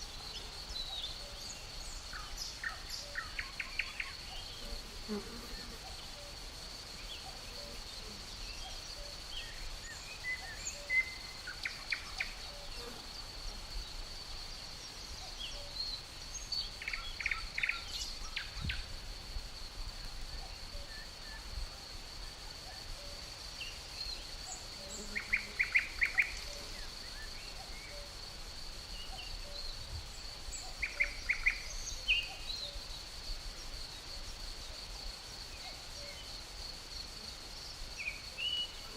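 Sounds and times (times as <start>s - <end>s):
crickets trilling: 0.0s - 38.9s
songbirds chirping: 0.0s - 38.9s.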